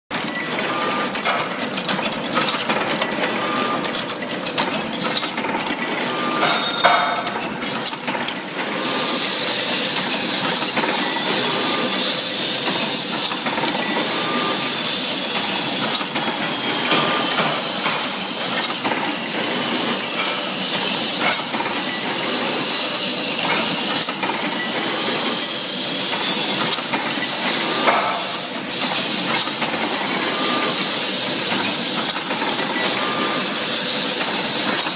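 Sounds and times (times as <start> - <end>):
machine clattering: 0.1 - 34.9.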